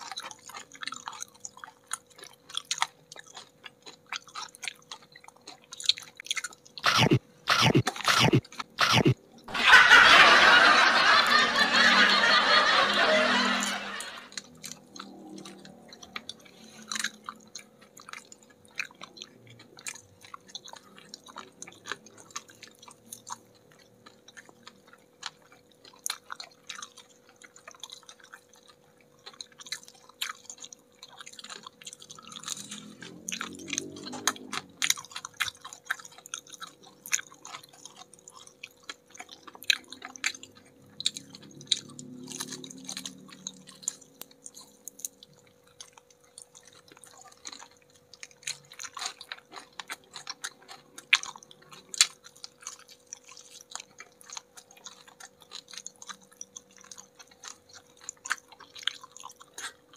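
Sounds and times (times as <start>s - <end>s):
wet mouth clicks: 0.0s - 9.2s, 14.3s - 28.7s, 29.3s - 59.8s
chewing and biting crunchy food: 0.0s - 59.9s
faint steady hum: 0.0s - 59.9s.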